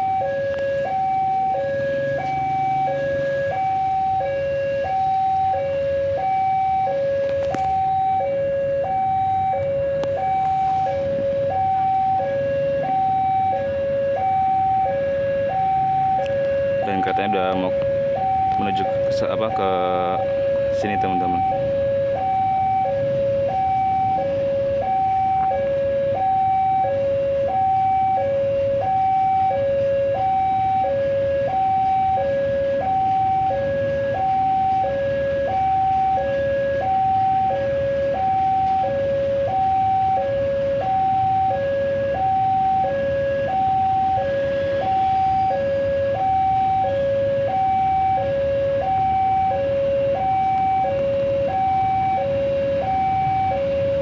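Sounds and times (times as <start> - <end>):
two-tone crossing alarm chime: 0.0 - 54.0.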